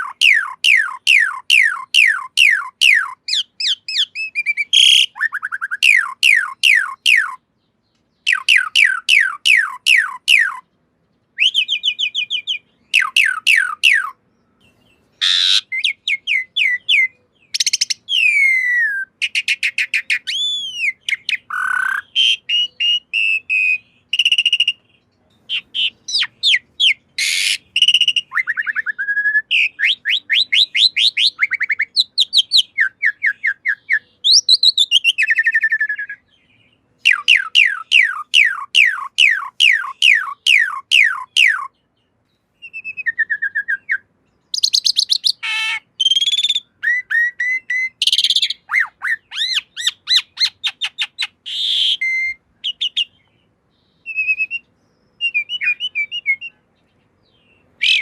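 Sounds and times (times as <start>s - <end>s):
starling singing: 0.0s - 42.0s, 42.6s - 58.0s.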